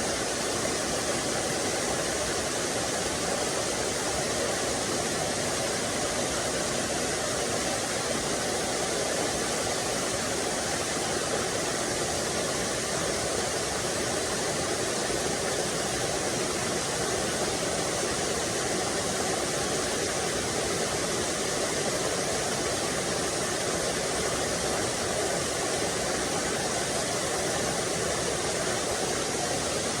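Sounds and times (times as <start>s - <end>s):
waterfall and stream rushing: 0.0s - 30.0s.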